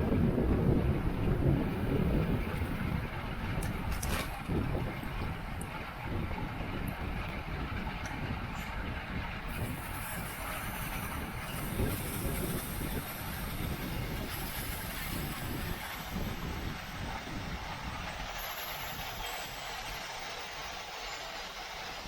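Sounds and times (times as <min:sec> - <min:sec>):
wind rushing over microphone: 0:00.0 - 0:20.2
low road rumble from bicycle: 0:00.0 - 0:22.0.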